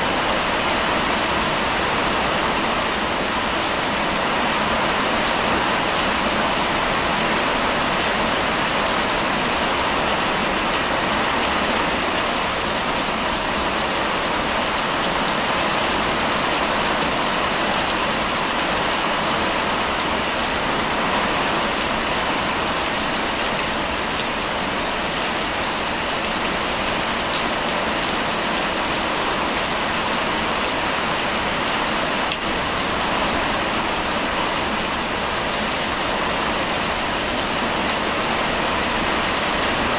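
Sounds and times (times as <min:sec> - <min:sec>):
heavy rain on foliage: 0:00.0 - 0:39.9.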